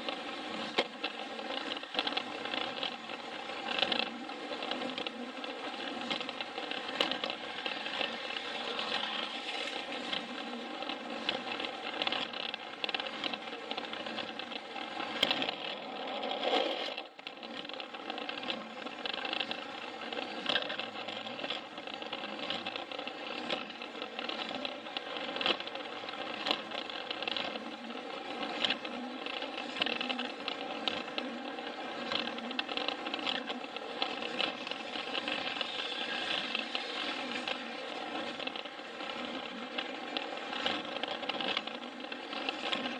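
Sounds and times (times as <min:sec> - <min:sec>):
toy train motor whirring: 0:00.0 - 0:42.9
wheels clicking over rail joints: 0:00.0 - 0:42.9.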